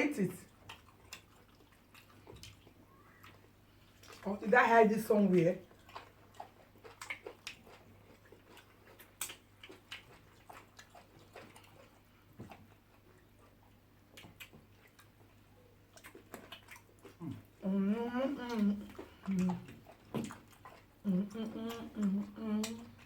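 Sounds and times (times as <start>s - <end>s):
person chewing food: 0.4s - 4.3s, 5.6s - 23.0s.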